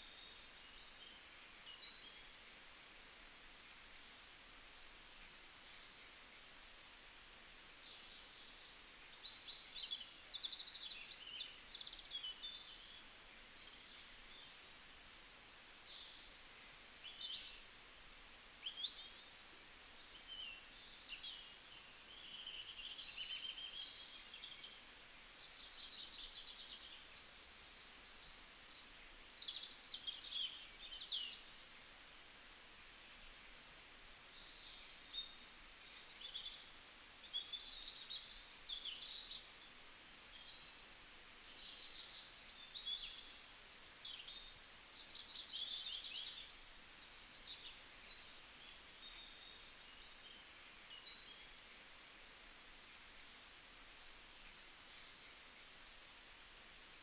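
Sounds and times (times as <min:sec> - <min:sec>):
soft steady hiss: 0:00.0 - 0:57.0
small birds chirping and trilling: 0:00.2 - 0:57.0.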